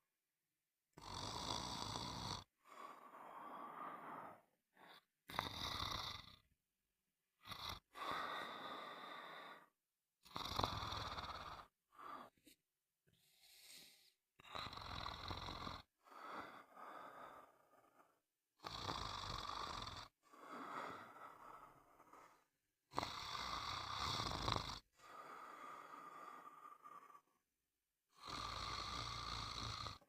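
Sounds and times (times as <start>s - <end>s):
person snoring: 1.0s - 6.5s, 7.4s - 12.4s, 13.2s - 27.4s, 28.1s - 30.0s.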